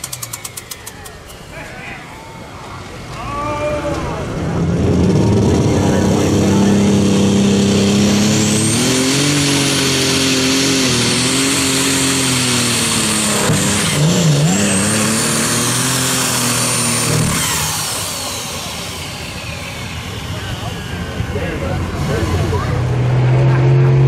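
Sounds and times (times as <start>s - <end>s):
high whine: 0.0s - 24.0s
tractor engine running hard: 0.0s - 24.0s.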